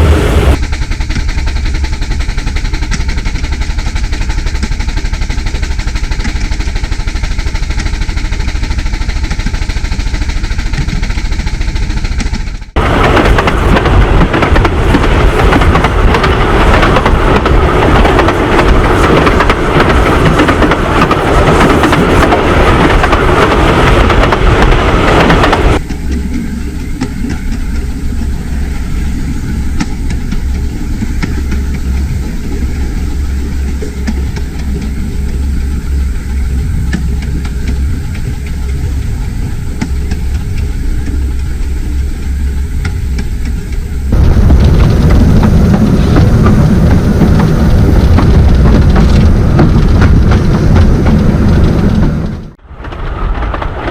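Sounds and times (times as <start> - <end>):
miniature train running rumble: 0.0 - 53.9.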